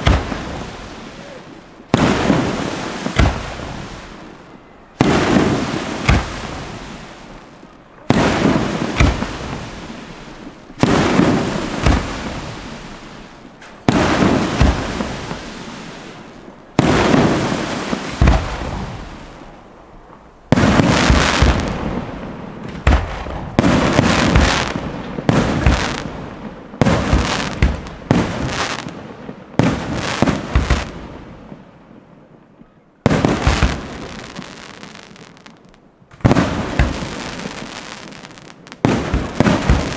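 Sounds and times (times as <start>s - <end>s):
firework shells bursting with echo: 0.0s - 31.7s, 32.6s - 39.9s.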